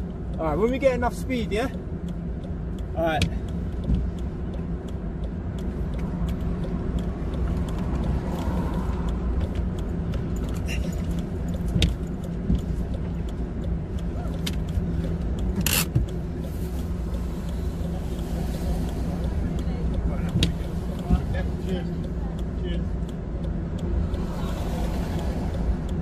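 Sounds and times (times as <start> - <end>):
small ticks and creaks: 0.0 - 26.0
tyres rumbling on road: 0.0 - 26.0.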